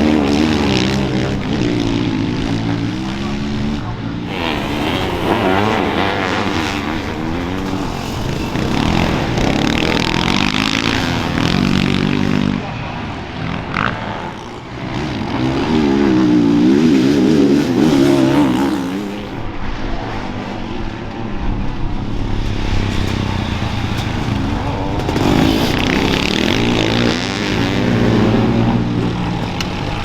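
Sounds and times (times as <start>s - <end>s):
motocross engines revving: 0.0s - 30.0s.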